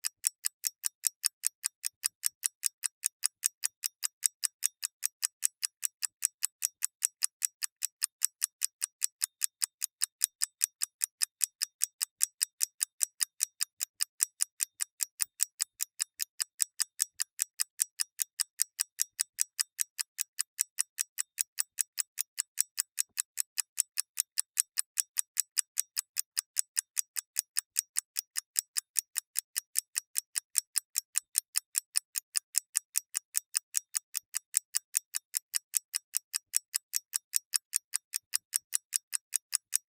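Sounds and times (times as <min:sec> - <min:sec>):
mechanical clock ticking: 0:00.0 - 0:39.9.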